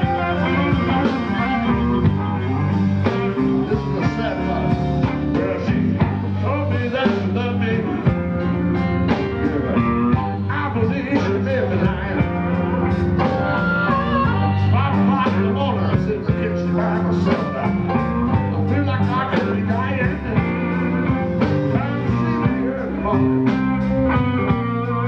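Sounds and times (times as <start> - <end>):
amplified harmonica: 0.0 - 25.0
blues band playing: 0.0 - 25.0.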